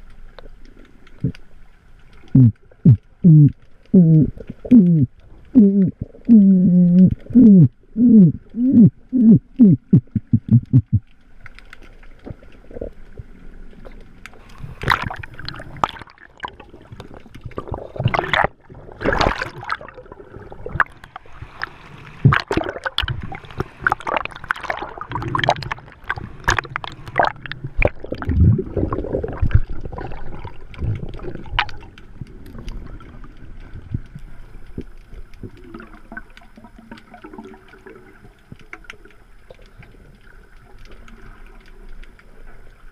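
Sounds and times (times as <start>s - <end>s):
low pulsing gurgles: 0.0s - 42.9s
splashes and bubble bursts: 0.0s - 42.9s
underwater water gurgling: 0.0s - 42.9s.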